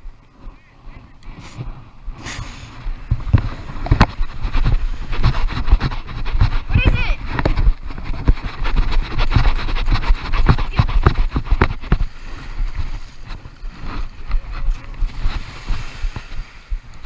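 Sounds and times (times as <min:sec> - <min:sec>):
small waves washing on sand: 0:00.0 - 0:17.0
wind buffeting microphone: 0:00.0 - 0:17.0.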